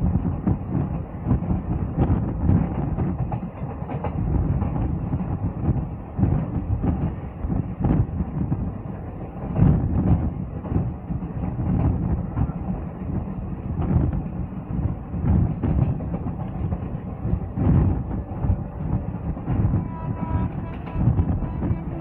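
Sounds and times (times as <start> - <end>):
train wheels rumbling on rails: 0.0 - 22.0
clatter and thumps over track: 0.1 - 8.7, 9.4 - 22.0.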